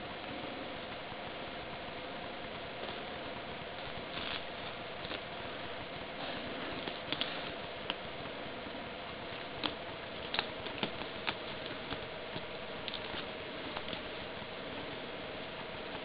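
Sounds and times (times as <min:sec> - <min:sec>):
faint hum: 0:00.0 - 0:16.0
steady hiss: 0:00.0 - 0:16.0
paws tapping and claws scratching: 0:02.4 - 0:16.0.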